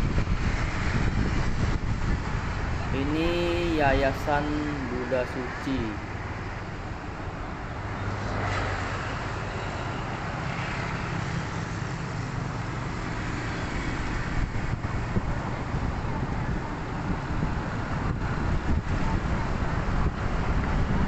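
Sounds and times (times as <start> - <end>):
traffic hum: 0.0 - 21.0
vehicle engine drone: 0.0 - 21.0.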